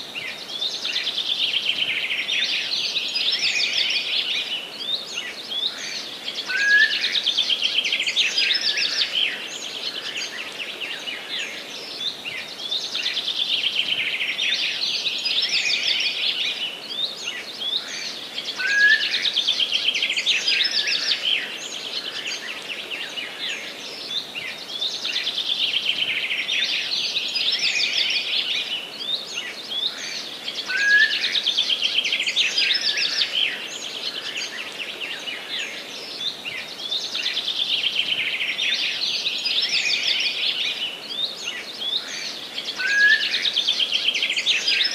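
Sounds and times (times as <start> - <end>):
songbirds chorus: 0.0 - 44.9.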